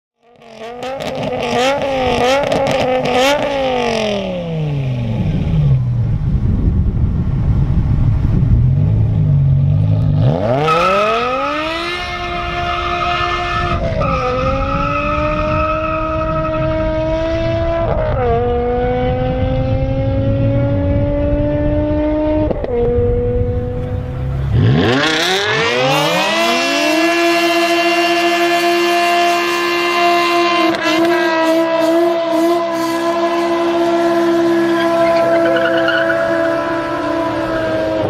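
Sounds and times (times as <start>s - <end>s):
car engine revving: 0.2s - 6.2s, 8.2s - 38.0s.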